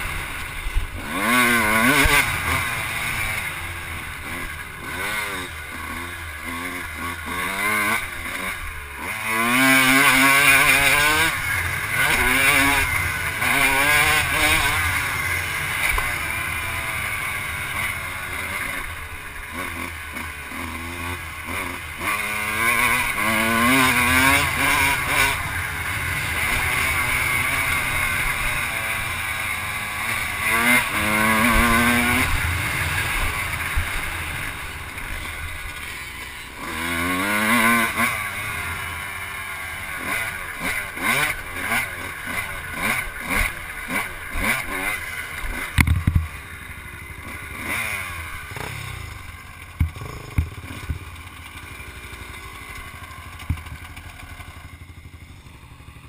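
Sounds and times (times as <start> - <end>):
off-road vehicle engine accelerating: 0.0 - 56.0.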